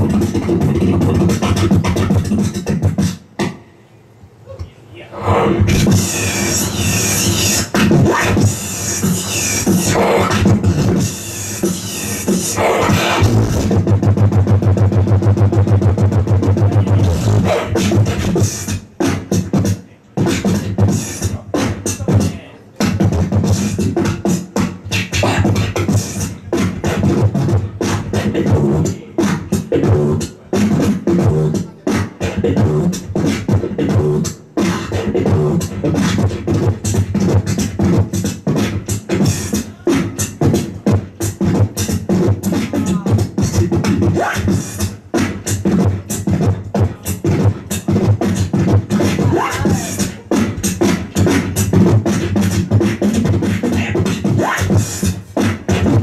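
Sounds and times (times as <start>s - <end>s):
person beatboxing into microphone: 0.0s - 3.8s, 4.5s - 56.0s.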